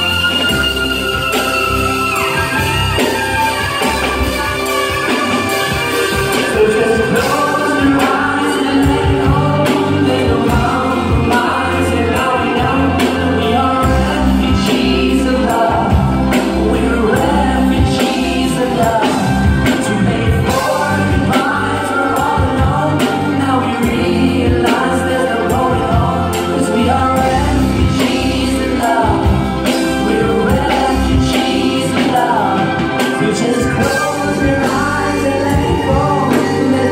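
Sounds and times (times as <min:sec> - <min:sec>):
bass guitar: 0:00.0 - 0:36.9
drum kit: 0:00.0 - 0:36.9
keyboards: 0:00.0 - 0:36.9
person singing: 0:00.0 - 0:36.9.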